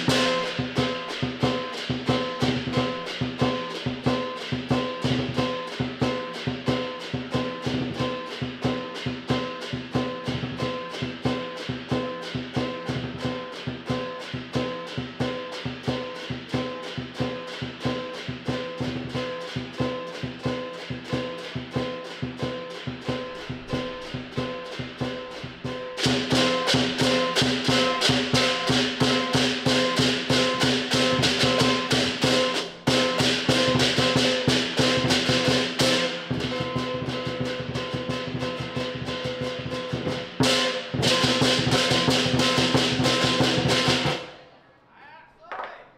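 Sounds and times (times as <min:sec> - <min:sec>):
drum quick beat: 0:00.0 - 0:44.4
cymbals clashing: 0:00.0 - 0:44.5.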